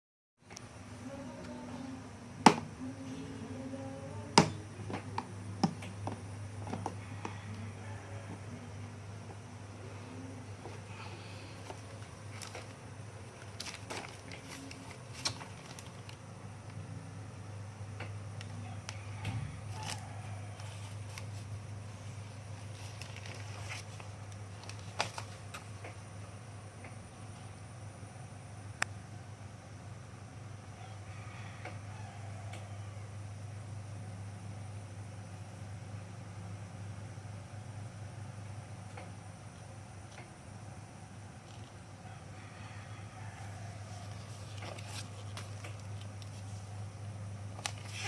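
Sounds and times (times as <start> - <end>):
steady low hum: 0.4 - 48.0.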